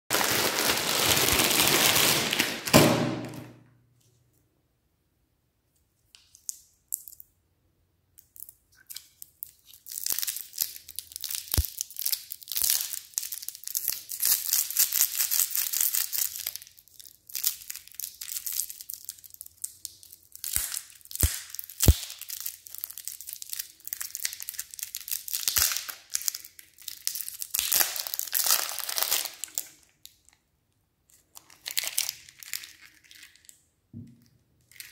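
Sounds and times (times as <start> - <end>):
plastic wrapper crinkling: 0.1 - 3.5, 8.4 - 30.4, 31.1 - 34.9.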